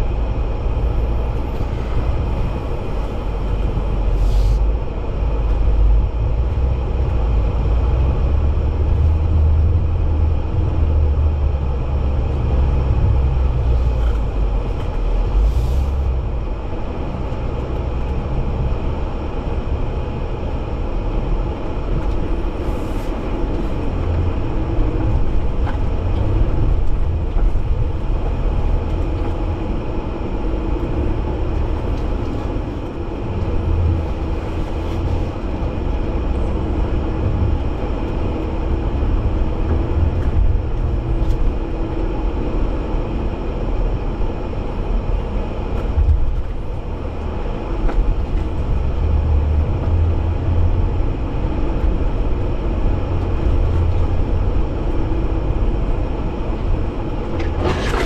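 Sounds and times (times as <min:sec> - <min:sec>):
vehicle driving off-road: 0:00.0 - 0:58.0.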